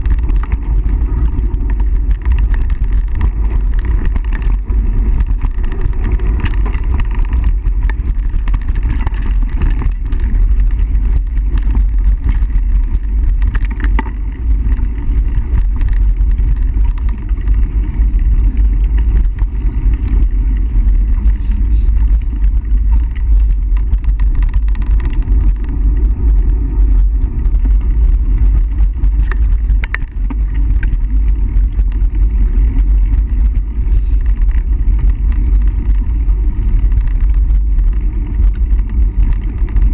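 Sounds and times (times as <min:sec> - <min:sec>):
bike clicks and rattles: 0:00.0 - 0:39.9
tyres rumbling on dirt trail: 0:00.0 - 0:39.9
wind on microphone: 0:00.0 - 0:39.9.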